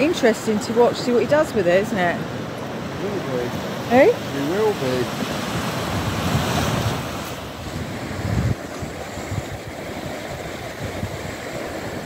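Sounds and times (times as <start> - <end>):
sea surf on sandy beach: 0.0 - 12.0
wind buffeting microphone: 0.0 - 12.0.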